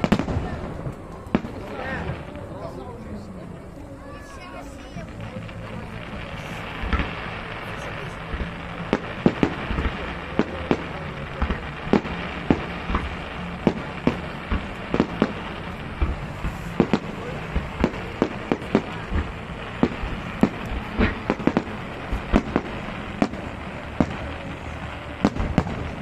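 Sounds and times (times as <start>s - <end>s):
fireworks bangs and pops: 0.0s - 2.8s, 4.0s - 26.0s
background rumble: 0.0s - 26.0s.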